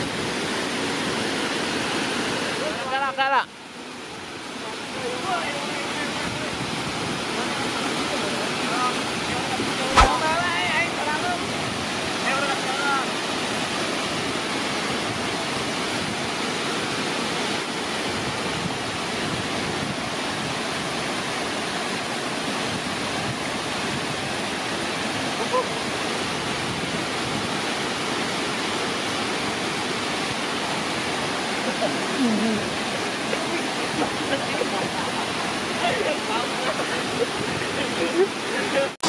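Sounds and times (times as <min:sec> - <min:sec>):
waterfall rushing: 0:07.2 - 0:39.0.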